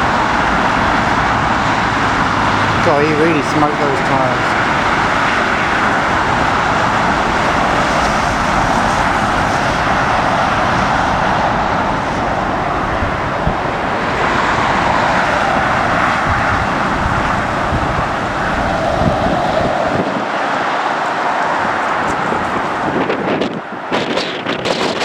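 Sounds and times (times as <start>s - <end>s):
wind buffeting microphone: 0.0s - 20.8s, 21.5s - 25.0s
jet engines roaring: 0.0s - 25.0s.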